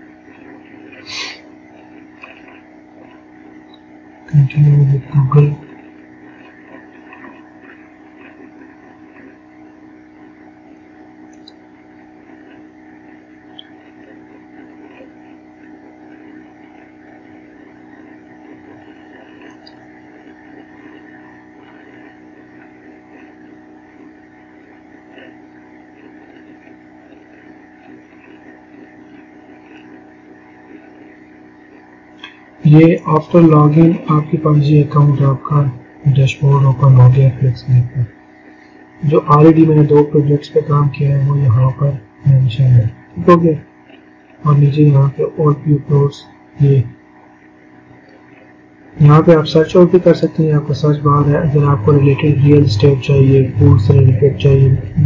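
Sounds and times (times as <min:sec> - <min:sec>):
electrical hum and hiss: 0:00.0 - 0:55.0.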